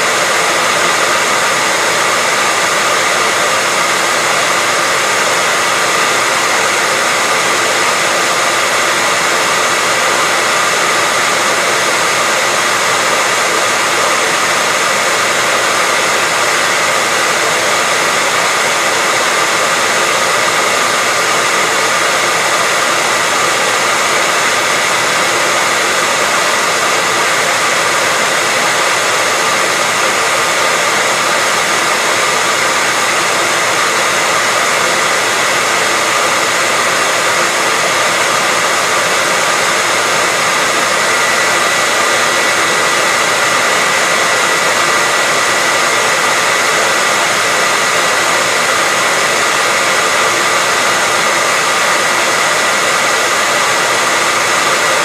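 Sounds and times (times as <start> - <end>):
hair dryer blowing: 0.0 - 55.0
hair dryer motor whine: 0.0 - 55.0.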